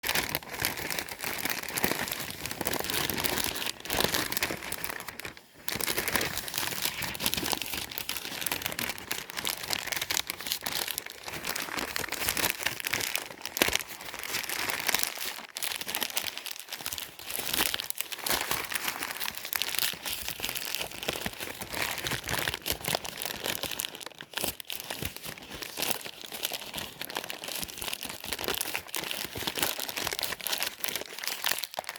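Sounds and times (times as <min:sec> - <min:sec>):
newspaper being crumpled: 0:00.0 - 0:31.9.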